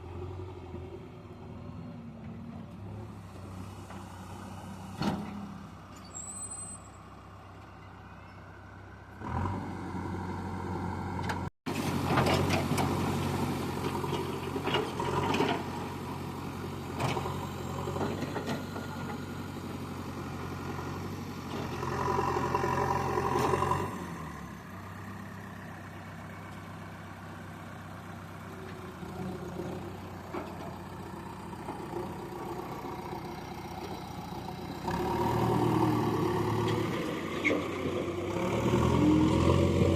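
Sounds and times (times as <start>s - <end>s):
diesel engine running: 7.1s - 39.9s.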